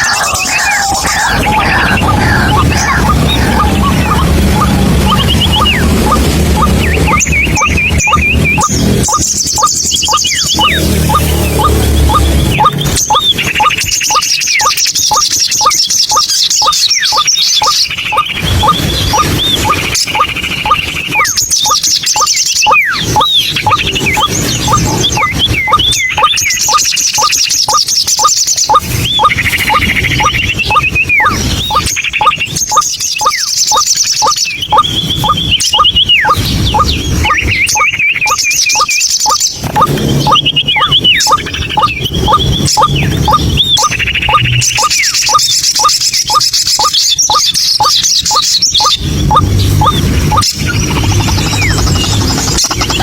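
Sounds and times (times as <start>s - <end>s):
fast high bird trill: 0.0s - 53.0s
waterhen calling: 0.0s - 53.0s.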